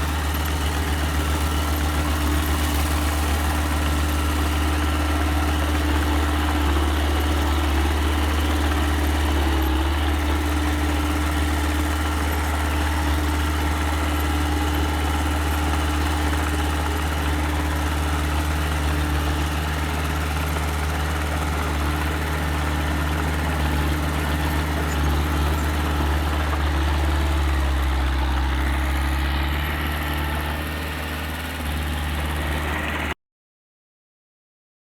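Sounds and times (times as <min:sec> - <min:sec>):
diesel engine humming: 0:00.0 - 0:33.2.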